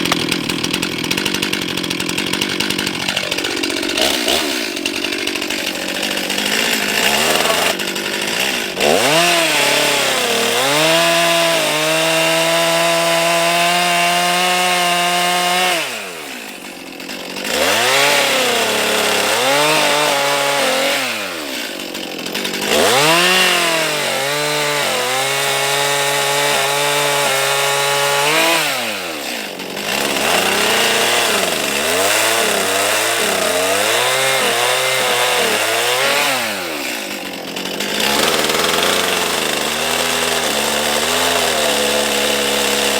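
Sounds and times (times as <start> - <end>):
two-stroke chainsaw revving: 0.0 - 42.9.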